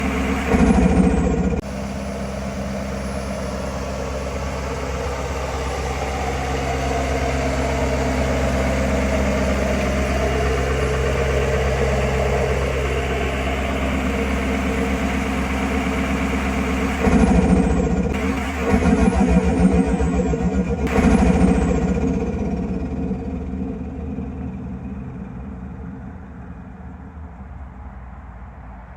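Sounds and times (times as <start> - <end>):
turbo whistle and flutter: 0.0 - 23.4
diesel engine idling: 0.0 - 27.8.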